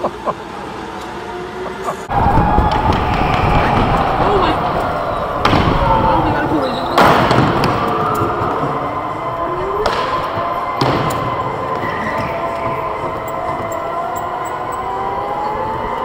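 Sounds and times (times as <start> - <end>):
electric go-kart motors whining: 0.0 - 16.0.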